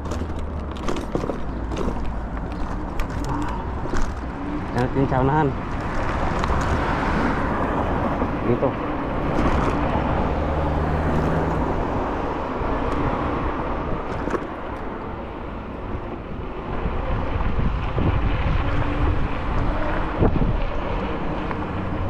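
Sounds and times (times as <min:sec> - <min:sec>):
car traffic rushing: 0:00.0 - 0:22.0
wind rushing over microphone: 0:00.0 - 0:22.0.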